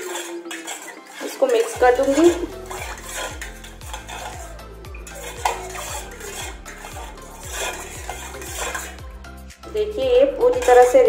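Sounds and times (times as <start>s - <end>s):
spoon clinking and scraping pot: 0.0s - 9.2s, 10.3s - 11.0s
liquid swirling: 0.0s - 9.5s, 10.2s - 11.0s.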